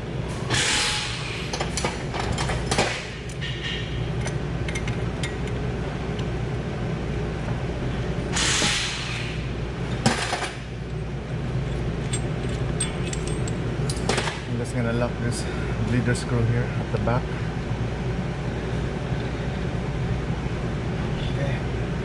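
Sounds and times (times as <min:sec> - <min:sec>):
low workshop hum: 0:00.0 - 0:22.0.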